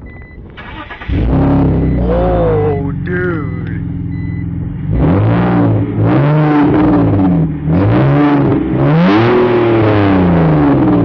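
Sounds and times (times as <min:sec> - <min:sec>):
car engine revving: 0:00.4 - 0:11.0.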